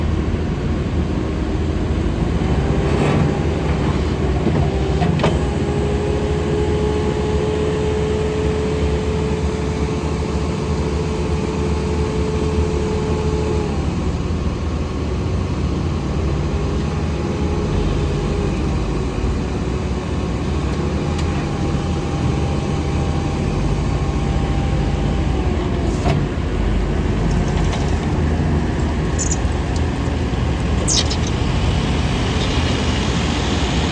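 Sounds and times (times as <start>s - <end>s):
loader engine running: 0.0s - 33.9s.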